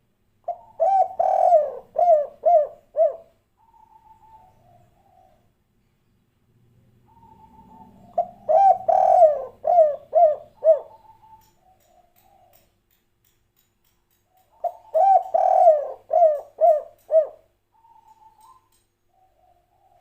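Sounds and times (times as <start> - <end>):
dove cooing: 0.5 - 5.5, 7.0 - 12.6, 14.5 - 20.0.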